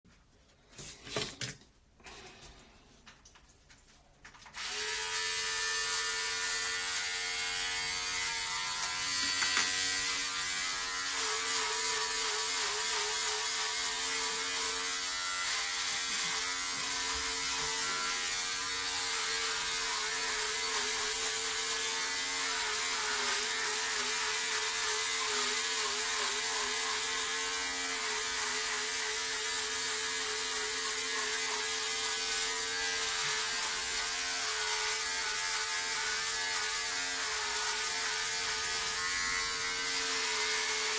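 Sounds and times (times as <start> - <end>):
electric shaver buzzing: 4.5 - 40.9.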